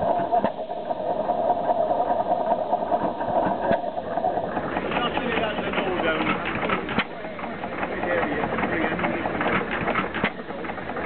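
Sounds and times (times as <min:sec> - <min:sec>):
stationary engine chugging: 0:00.0 - 0:11.0.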